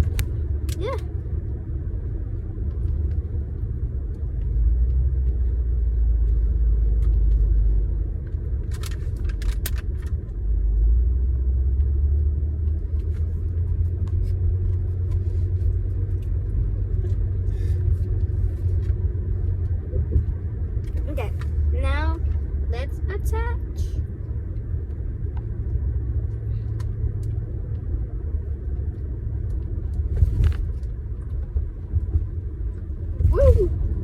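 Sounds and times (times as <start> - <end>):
road rumble inside car: 0.0 - 34.0.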